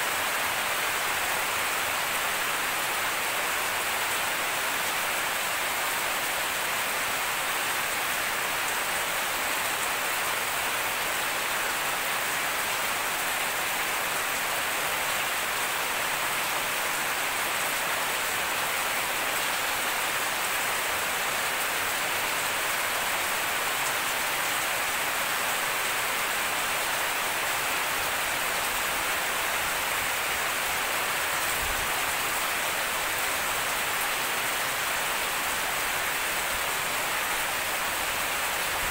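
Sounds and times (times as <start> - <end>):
rain falling on grass: 0.0 - 38.9.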